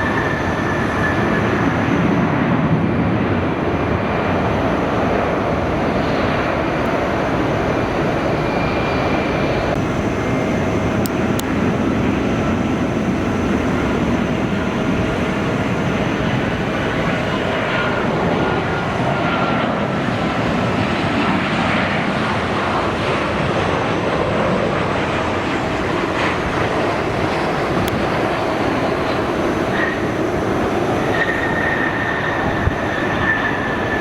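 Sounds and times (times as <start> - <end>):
airliner engines running: 0.0 - 34.0.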